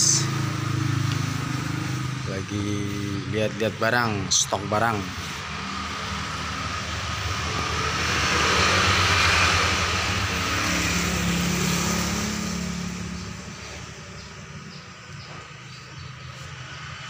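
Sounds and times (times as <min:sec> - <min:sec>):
vehicle engine passing: 0:00.0 - 0:17.0.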